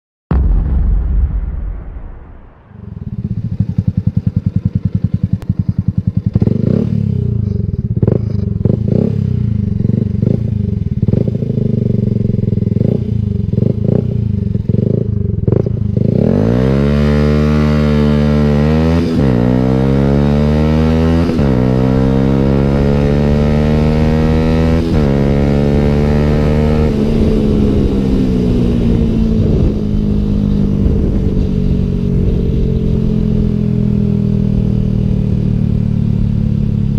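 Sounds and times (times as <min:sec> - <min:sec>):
motorcycle engine accelerating: 0:02.7 - 0:36.9.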